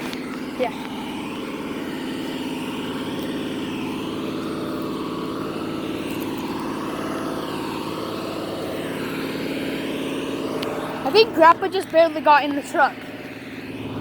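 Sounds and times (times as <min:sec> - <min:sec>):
vehicle engine running steadily: 0:00.0 - 0:14.0.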